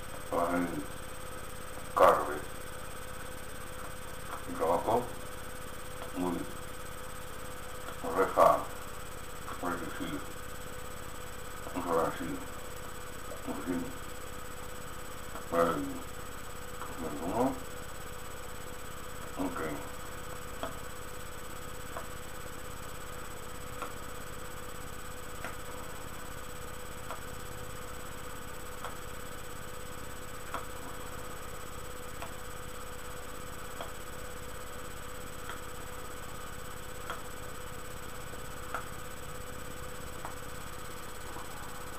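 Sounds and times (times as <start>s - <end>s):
recording hiss and hum: 0.0s - 41.9s.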